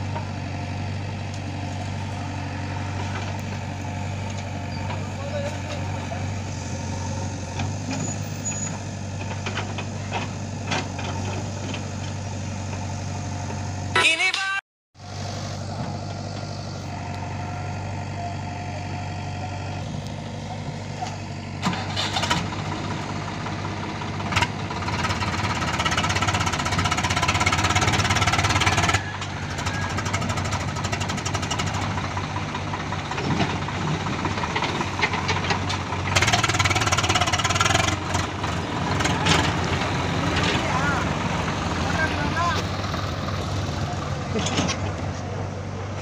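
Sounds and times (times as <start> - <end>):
tractor diesel engine idling: 0.0 - 13.9, 15.0 - 46.0
backhoe loader engine working: 0.0 - 14.0, 15.0 - 46.0.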